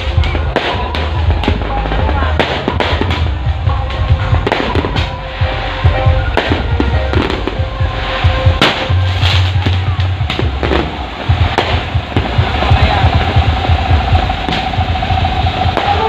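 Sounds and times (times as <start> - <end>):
bass-heavy music: 0.0 - 16.0
firecrackers banging: 0.0 - 16.0.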